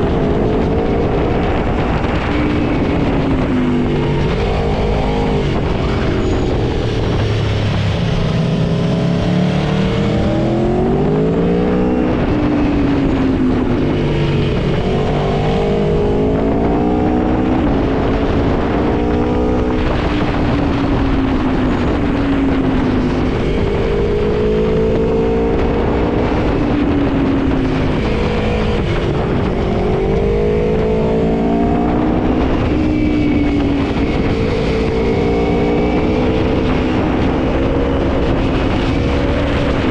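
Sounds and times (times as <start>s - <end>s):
motorcycle engine accelerating: 0.0s - 39.9s
wind and road rush: 0.0s - 39.9s.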